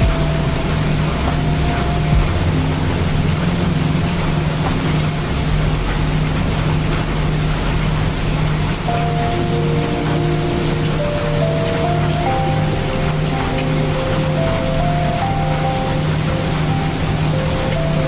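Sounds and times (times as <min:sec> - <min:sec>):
brown noise rumble: 0:00.0 - 0:18.0
heavy rain: 0:00.0 - 0:18.0
soft ambient music notes: 0:00.0 - 0:18.0.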